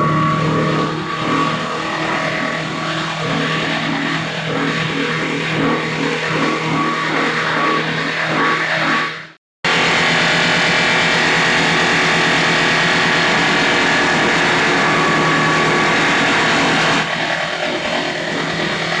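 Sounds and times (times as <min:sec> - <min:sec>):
wood crusher running: 0:00.0 - 0:09.1, 0:09.7 - 0:19.0.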